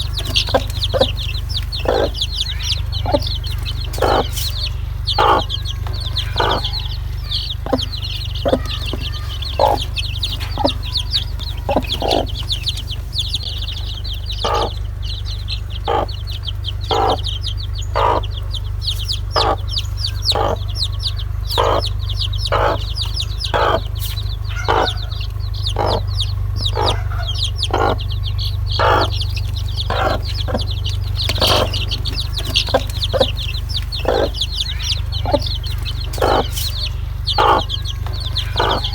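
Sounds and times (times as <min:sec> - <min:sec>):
chicks peeping: 0:00.0 - 0:38.9
hen clucking: 0:00.0 - 0:38.9
steady low hum: 0:00.0 - 0:38.9.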